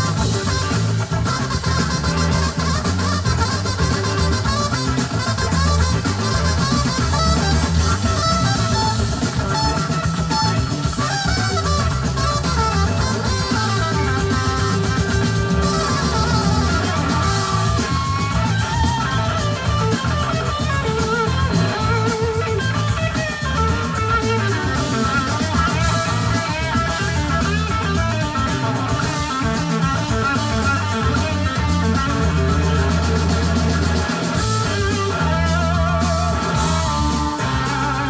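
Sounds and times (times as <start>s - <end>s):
electric guitar: 0.0s - 38.0s
live rock band playing: 0.0s - 38.0s.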